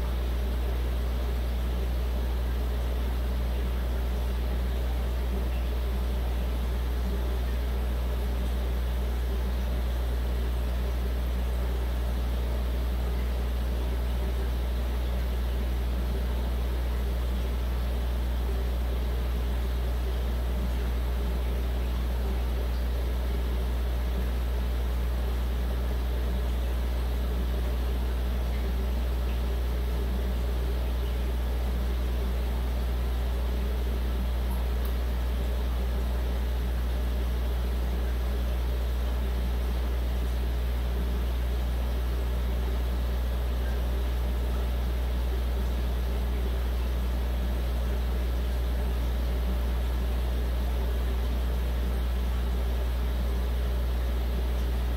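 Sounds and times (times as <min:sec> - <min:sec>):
aquarium equipment humming: 0:00.0 - 0:54.9.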